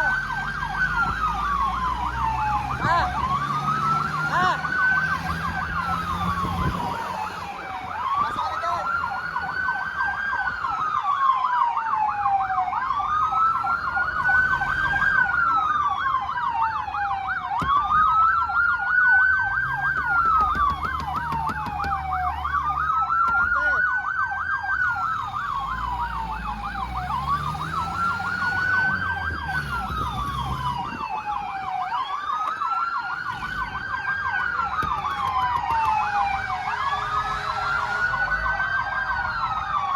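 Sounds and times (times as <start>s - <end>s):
vehicle engine rumbling: 0.0s - 11.7s, 12.5s - 39.9s
fire truck siren wailing: 0.0s - 39.9s
siren yelping rapidly: 0.0s - 39.9s.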